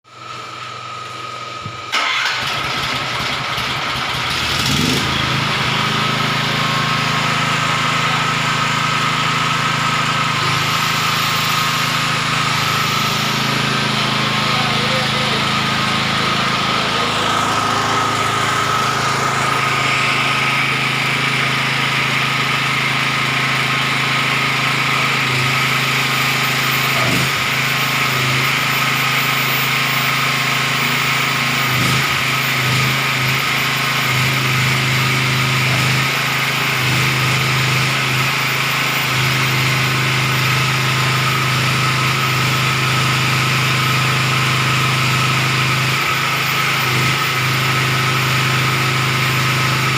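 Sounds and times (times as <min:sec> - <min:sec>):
generator engine running: 0:00.1 - 0:49.9.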